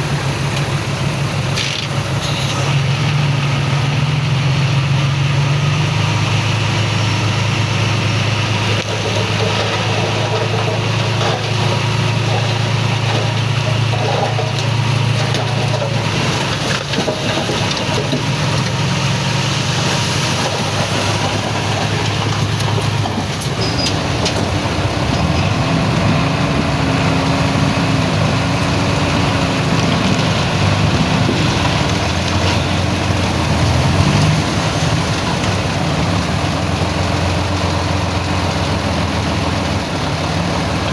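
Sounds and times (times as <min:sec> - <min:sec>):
heavy diesel machinery engine drone: 0:00.0 - 0:40.9.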